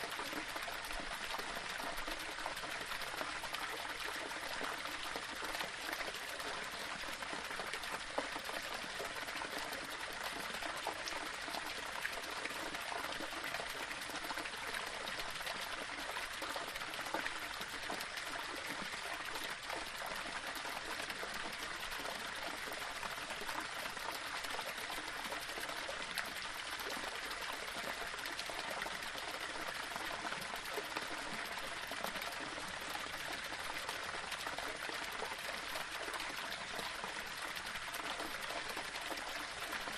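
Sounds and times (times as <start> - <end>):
small waterfall over rocks: 0.0 - 39.9.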